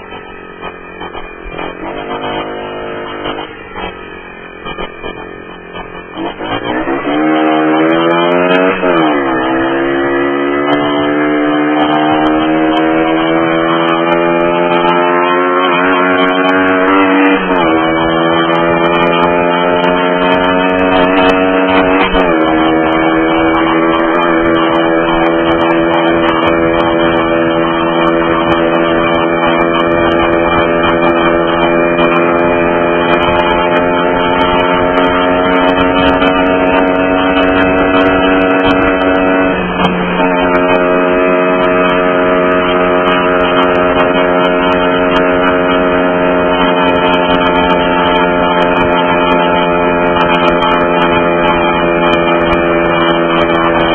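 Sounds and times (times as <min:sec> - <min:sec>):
motorbike engine running: 0:00.0 - 0:53.9.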